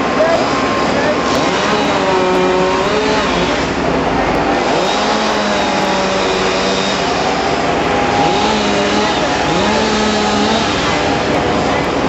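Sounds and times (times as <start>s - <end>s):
machine engine under load: 0.0s - 12.0s.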